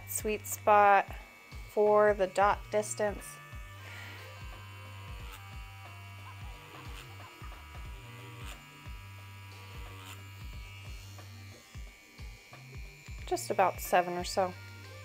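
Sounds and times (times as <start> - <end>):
tattoo pen buzzing: 0.0 - 15.0.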